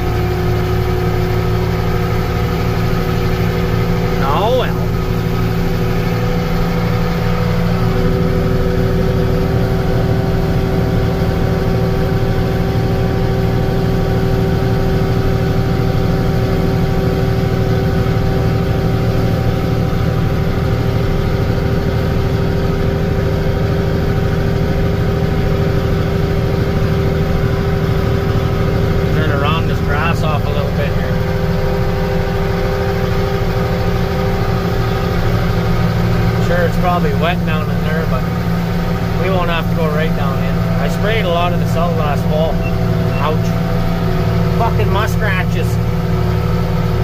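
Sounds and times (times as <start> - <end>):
constant engine whine: 0.0 - 47.0
tractor diesel engine droning: 0.0 - 47.0.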